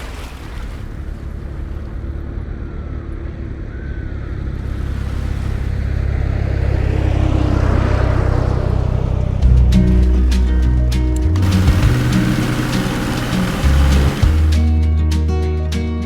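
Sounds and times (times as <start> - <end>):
motorboat engine humming: 0.0 - 14.8.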